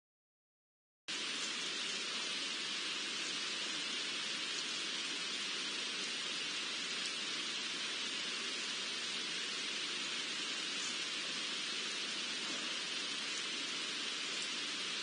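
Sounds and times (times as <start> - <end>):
steady ambient hiss: 1.1 - 15.0.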